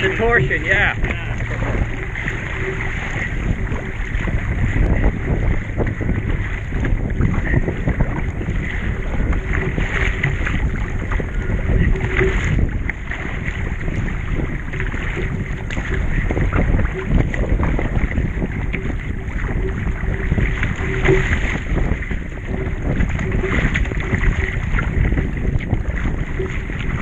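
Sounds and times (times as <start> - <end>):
water splashing and slapping: 0.0 - 27.0
wind buffeting microphone: 0.0 - 27.0.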